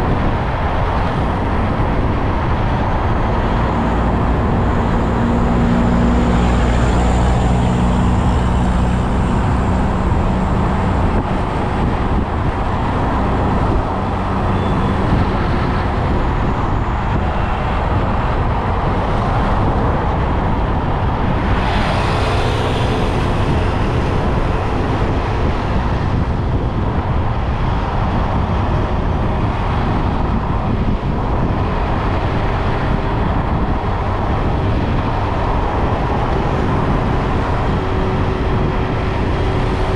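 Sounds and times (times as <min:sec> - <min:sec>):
motorbike engine hum: 0:00.0 - 0:39.9
wind and road noise: 0:00.0 - 0:39.9.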